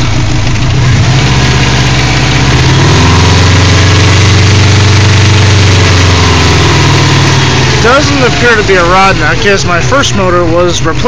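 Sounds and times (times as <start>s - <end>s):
car engine running: 0.0s - 11.0s
engine grinding noise: 0.0s - 11.0s.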